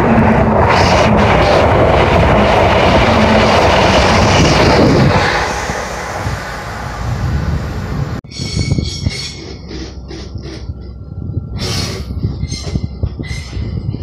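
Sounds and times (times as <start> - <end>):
train passing at speed: 0.0 - 13.9.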